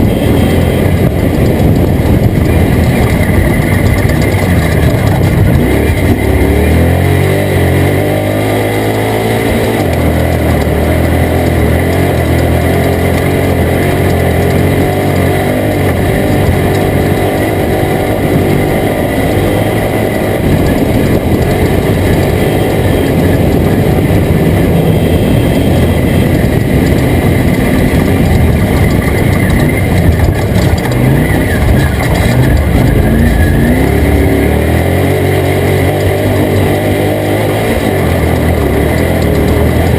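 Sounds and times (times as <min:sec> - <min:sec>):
race truck engine running hard: 0:00.0 - 0:39.9
rush of noise: 0:00.0 - 0:39.9.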